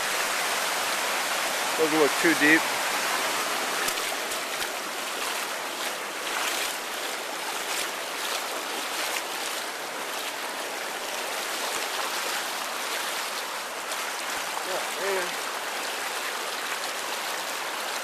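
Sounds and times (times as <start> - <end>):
stream rushing and splashing: 0.0 - 18.0.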